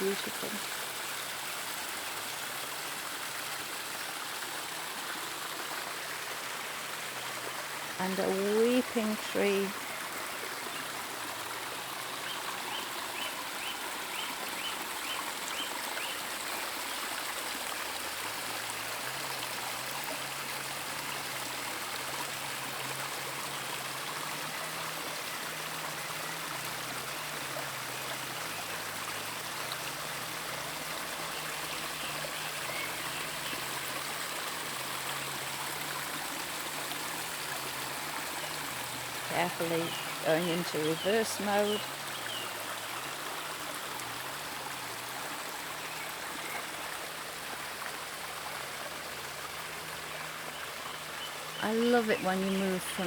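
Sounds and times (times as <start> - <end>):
water running over rocks: 0.0 - 53.0.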